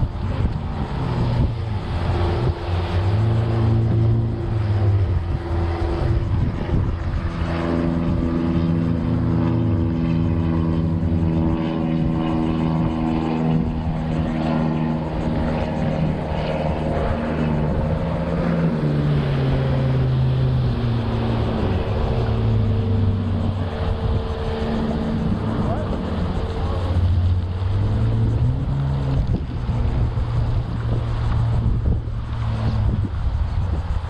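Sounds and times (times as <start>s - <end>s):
electric trolling motor humming: 0.0s - 34.0s.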